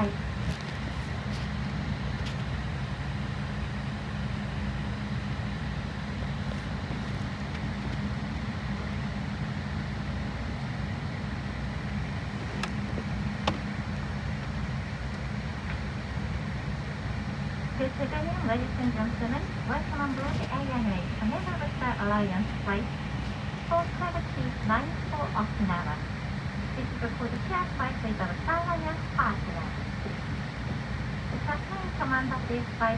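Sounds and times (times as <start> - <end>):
airliner cabin ventilation hum: 0.0 - 32.9.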